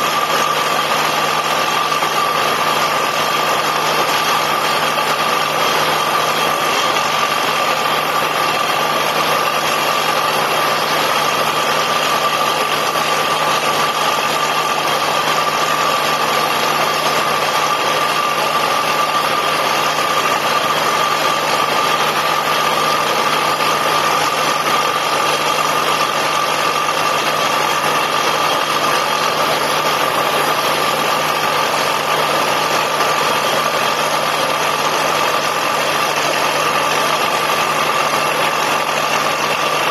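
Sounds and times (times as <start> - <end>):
drilling rig running: 0.0 - 39.9
steady machine whine: 0.0 - 39.9.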